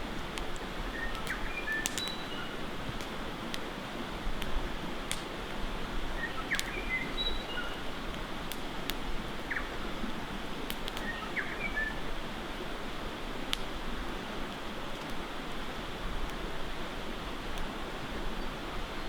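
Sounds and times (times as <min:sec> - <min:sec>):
campfire crackling and popping: 0:00.1 - 0:12.3, 0:13.0 - 0:18.4.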